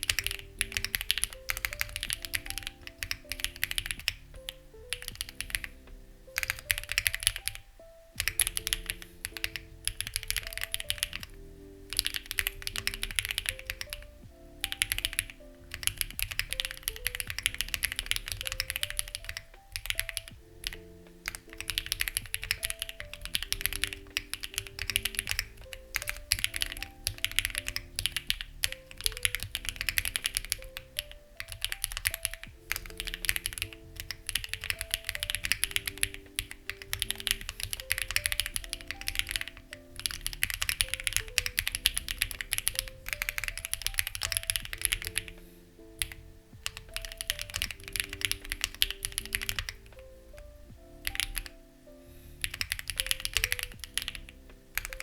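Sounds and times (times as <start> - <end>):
mechanical keyboard typing: 0.0 - 45.4, 46.0 - 51.6, 52.4 - 55.0
soft background music: 0.0 - 55.0.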